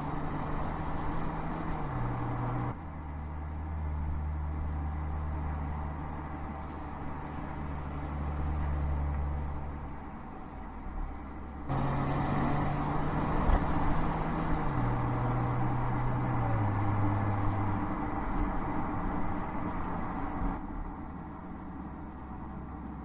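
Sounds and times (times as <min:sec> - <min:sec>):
car engine hum: 0:00.0 - 0:23.0
tyre and road noise: 0:00.0 - 0:23.0.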